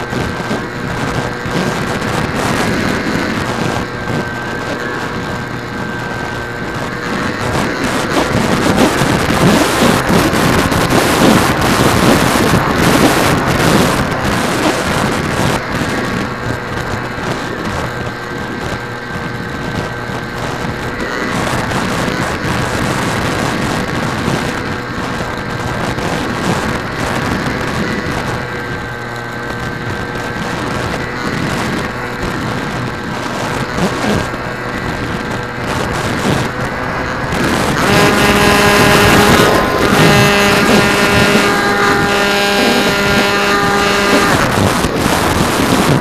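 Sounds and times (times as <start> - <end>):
model airplane motor and propeller: 0.0 - 46.0
wind rushing over microphone: 0.0 - 46.0.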